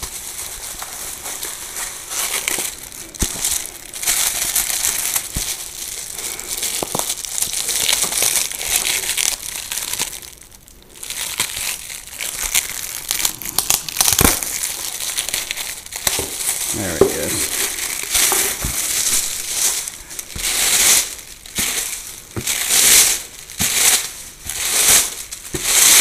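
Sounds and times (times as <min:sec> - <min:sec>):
plastic wrapping crinkling: 0:00.0 - 0:26.0.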